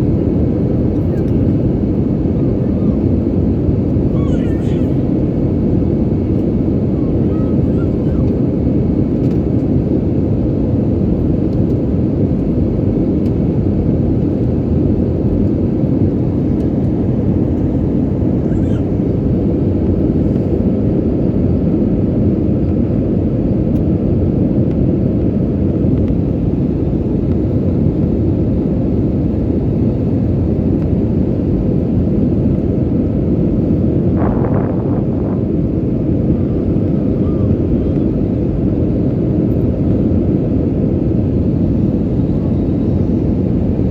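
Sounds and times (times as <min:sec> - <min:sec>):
airliner cabin noise: 0:00.0 - 0:43.9.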